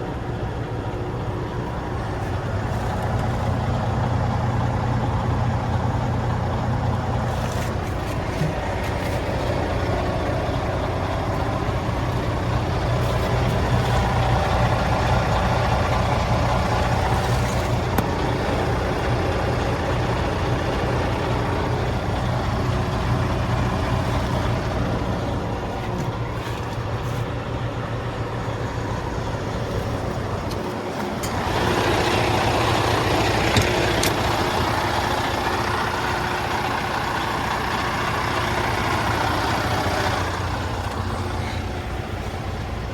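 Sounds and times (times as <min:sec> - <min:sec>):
truck diesel engine idling: 0:00.0 - 0:42.9.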